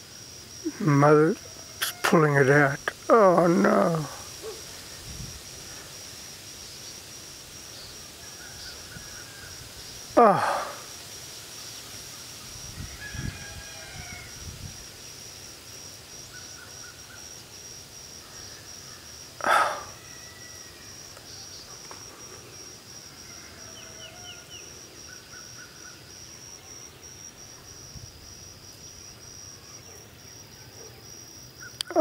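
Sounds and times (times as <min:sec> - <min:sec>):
high-pitched insect trill: 0:00.0 - 0:32.0.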